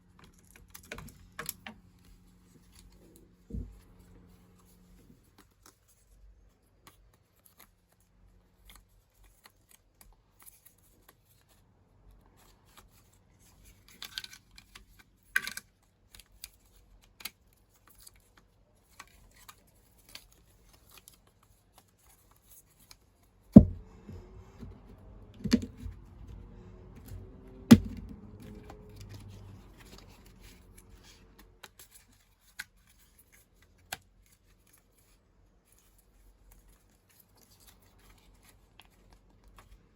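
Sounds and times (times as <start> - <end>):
small clicks and rustles: 0.0 - 39.9.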